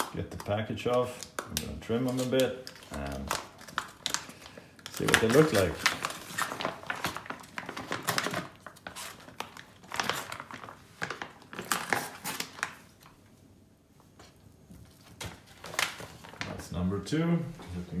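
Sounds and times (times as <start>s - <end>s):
plastic bags crinkling and tearing: 0.0s - 13.2s, 14.9s - 16.7s.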